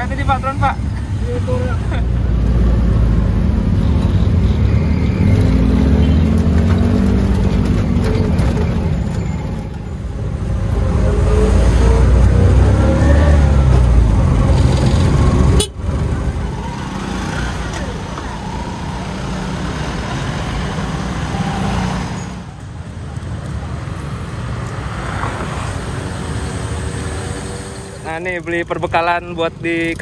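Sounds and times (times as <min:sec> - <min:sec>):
auto-rickshaw engine running: 0:00.0 - 0:24.7.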